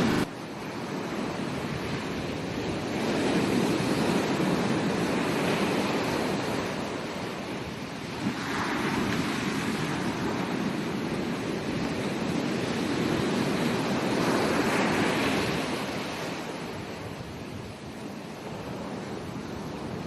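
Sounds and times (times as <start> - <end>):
ocean surf breaking on beach: 0.0 - 20.0.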